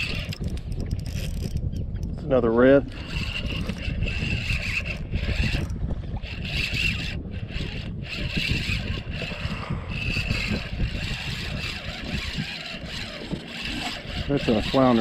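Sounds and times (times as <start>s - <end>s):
fishing reel gears whirring: 0.0s - 15.0s
wind rumbling on microphone: 0.0s - 15.0s.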